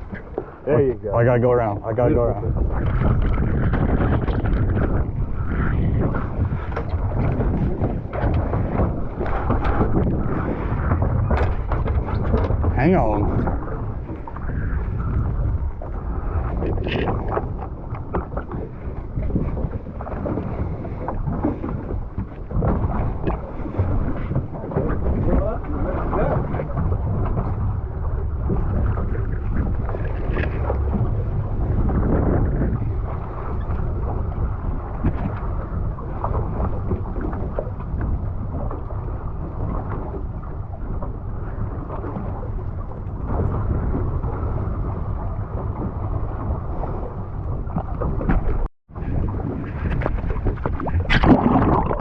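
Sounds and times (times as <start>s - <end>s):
boat engine rumble: 0.0s - 52.0s
choppy water on hull: 0.0s - 52.0s
wind buffeting microphone: 0.0s - 52.0s.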